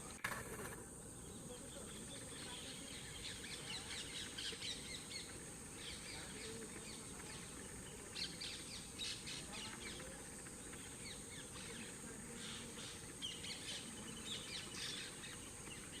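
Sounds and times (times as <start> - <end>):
birds chirping: 0.0 - 16.0
steady high hiss: 0.0 - 16.0.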